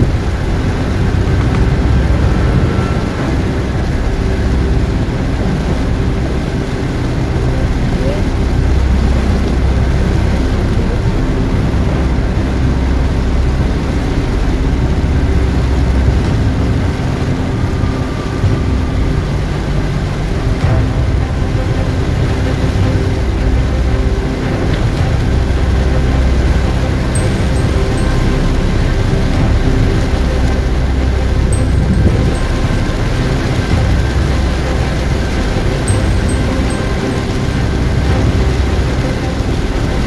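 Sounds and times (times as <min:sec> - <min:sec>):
heavy rain on car roof: 0:00.0 - 0:31.8, 0:32.4 - 0:40.0
car driving on wet road: 0:00.0 - 0:40.0.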